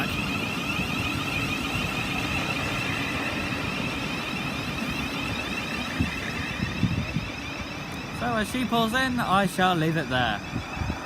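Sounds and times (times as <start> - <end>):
high-pitched train whine: 0.0 - 11.0
train wheels rumbling on track: 0.0 - 11.0.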